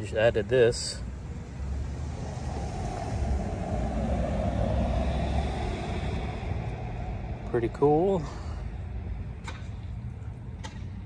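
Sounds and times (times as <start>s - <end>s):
passing road vehicle rumble: 0.0s - 11.0s.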